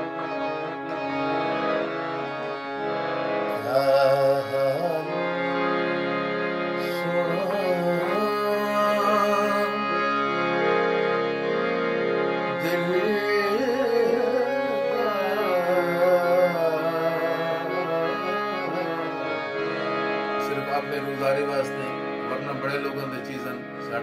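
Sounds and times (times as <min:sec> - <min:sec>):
harmonium chords: 0:00.0 - 0:24.0.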